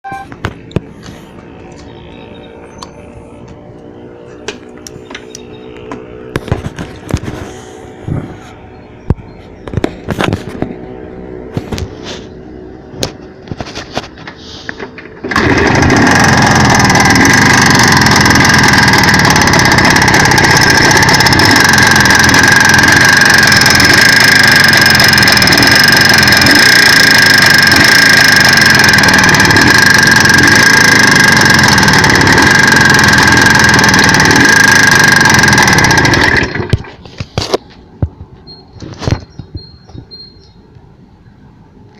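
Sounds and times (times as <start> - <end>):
motorcycle engine running: 0.0 - 38.3.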